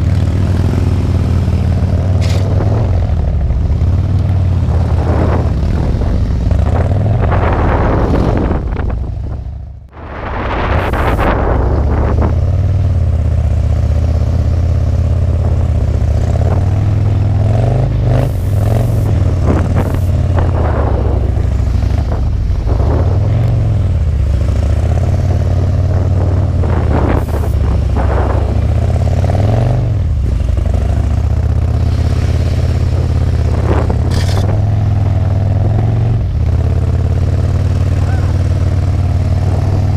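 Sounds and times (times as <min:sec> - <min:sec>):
motorcycle engines rumbling: 0:00.0 - 0:39.9.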